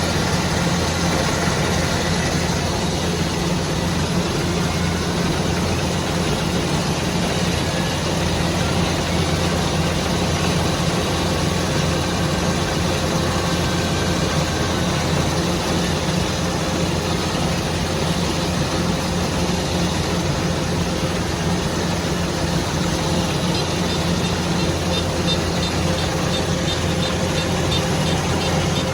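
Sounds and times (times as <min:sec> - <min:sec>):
harvesting machine running: 0:00.0 - 0:28.9.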